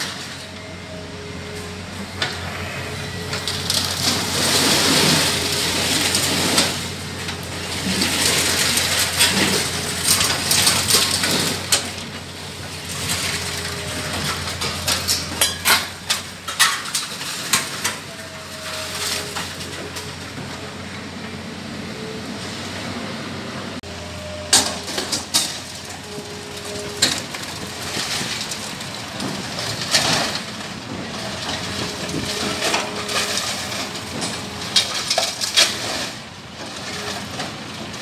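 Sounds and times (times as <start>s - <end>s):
excavator engine drone: 0.0s - 38.0s
scrap metal rattling and scraping: 1.5s - 20.6s, 23.9s - 38.0s.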